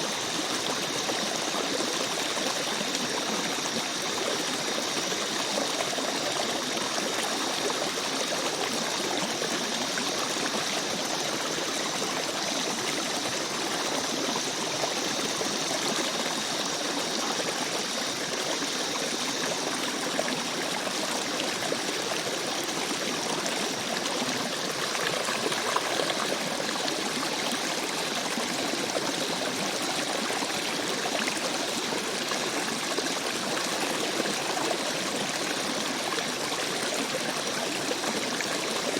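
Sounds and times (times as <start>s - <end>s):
stream water trickling and splashing: 0.0s - 38.9s.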